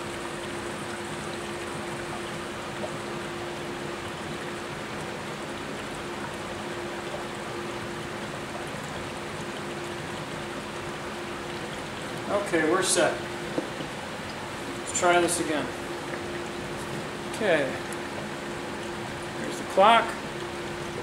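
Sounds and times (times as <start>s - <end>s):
gas fizzing and bubbling through water: 0.0s - 21.0s.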